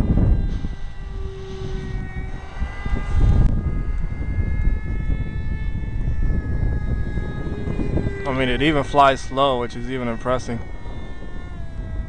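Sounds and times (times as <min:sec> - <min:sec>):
electric motor and propeller whine: 0:00.0 - 0:12.0
wind buffeting microphone: 0:00.0 - 0:12.0.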